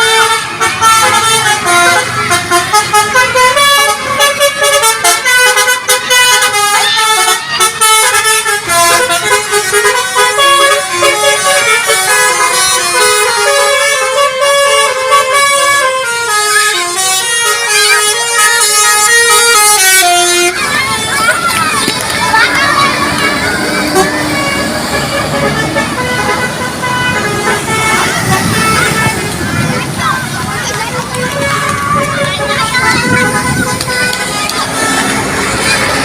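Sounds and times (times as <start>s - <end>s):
musical bus horn playing tune: 0.0s - 36.0s.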